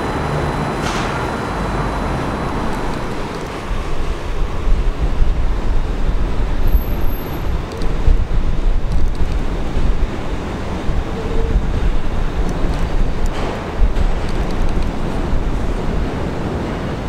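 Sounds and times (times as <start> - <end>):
city background noise: 0.0 - 17.0
wind buffeting microphone: 0.0 - 17.0.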